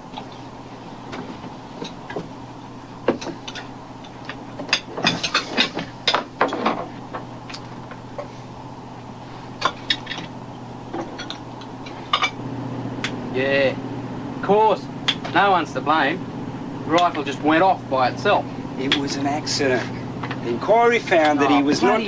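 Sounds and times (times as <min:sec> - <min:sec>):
ship engines humming: 0:00.0 - 0:22.0.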